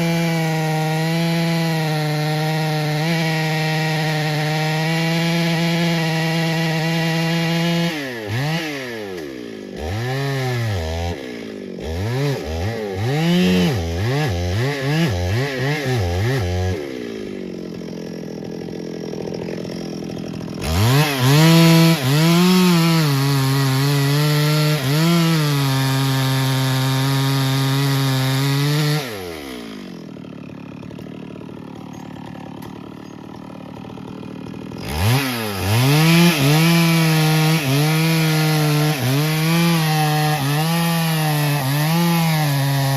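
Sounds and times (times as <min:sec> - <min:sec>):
chainsaw cutting wood: 0:00.0 - 0:42.9
chainsaw idling: 0:00.0 - 0:42.9
chainsaw revving: 0:00.0 - 0:42.9.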